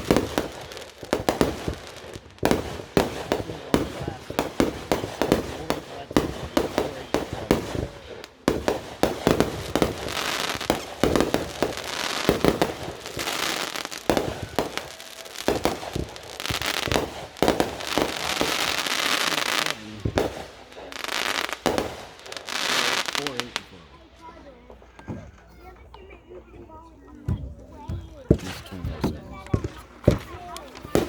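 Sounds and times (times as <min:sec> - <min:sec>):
dense fireworks crackling: 0:00.0 - 0:25.7, 0:27.3 - 0:31.0
fireworks bangs and pops: 0:00.0 - 0:26.1, 0:27.2 - 0:31.0.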